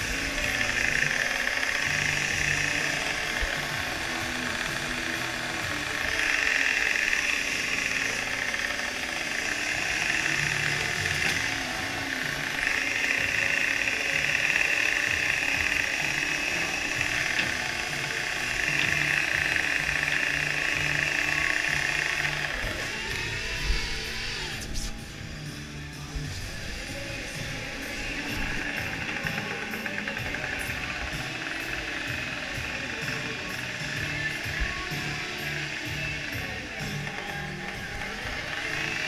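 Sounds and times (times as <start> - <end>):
hydraulic hauler high whine: 0.0 - 39.0
low engine drone: 0.0 - 39.0.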